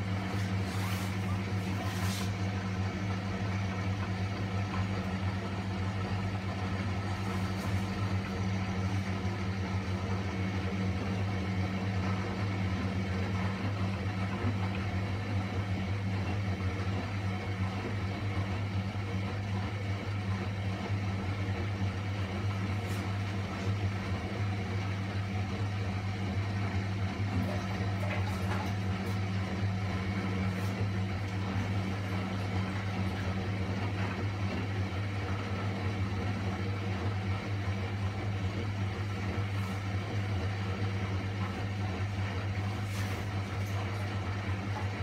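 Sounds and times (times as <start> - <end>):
washing machine drum humming: 0.0 - 45.0.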